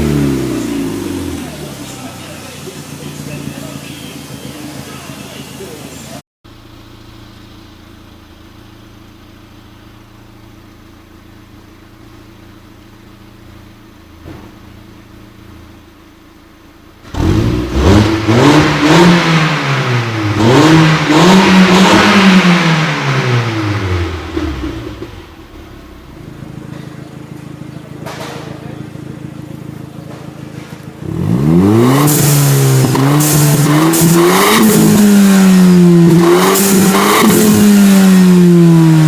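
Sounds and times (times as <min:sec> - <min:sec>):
car engine idling and revving: 0:00.0 - 0:39.0.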